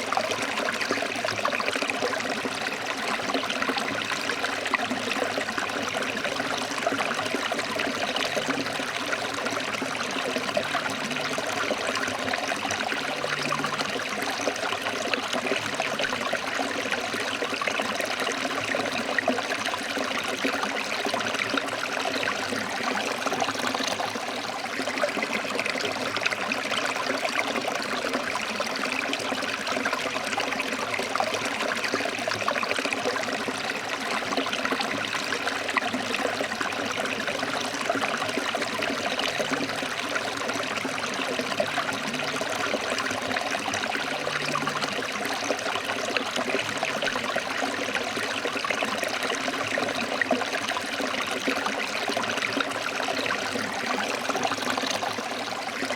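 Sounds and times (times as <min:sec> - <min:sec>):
stream flowing over rocks: 0:00.0 - 0:55.9.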